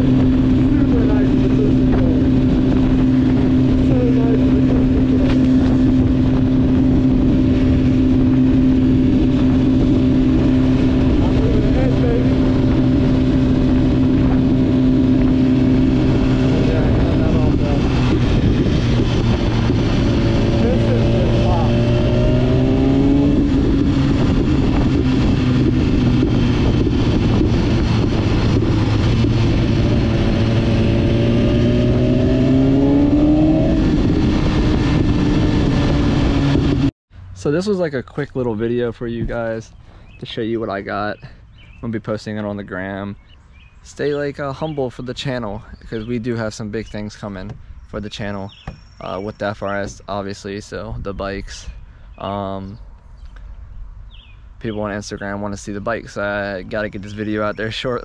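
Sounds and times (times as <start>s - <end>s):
motorcycle engine cruising: 0.0s - 58.0s
wind rushing over microphone: 0.0s - 58.0s.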